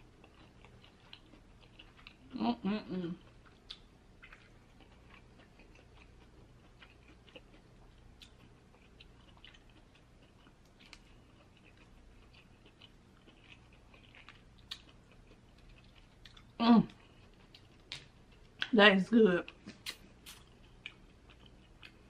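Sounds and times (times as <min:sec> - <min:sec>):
quiet chewing: 0:00.0 - 0:18.8, 0:19.4 - 0:22.0.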